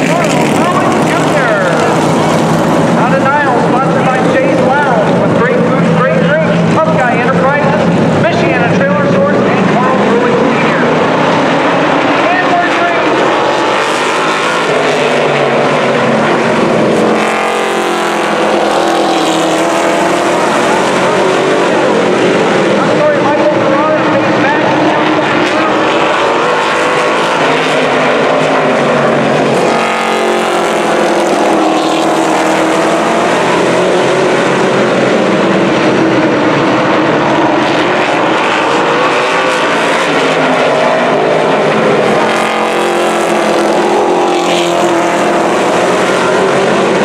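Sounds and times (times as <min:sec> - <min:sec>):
cars passing close by: 0:00.0 - 0:47.0
race car engines: 0:00.0 - 0:47.0.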